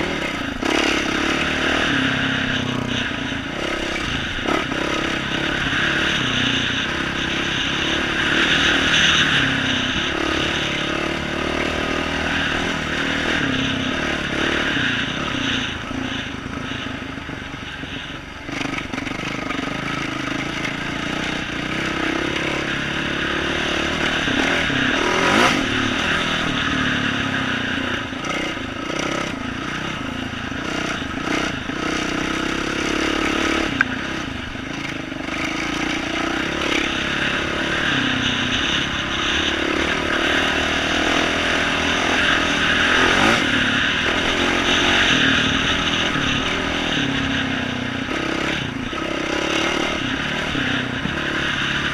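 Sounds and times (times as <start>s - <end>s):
dirt bike engine revving: 0.0s - 51.9s.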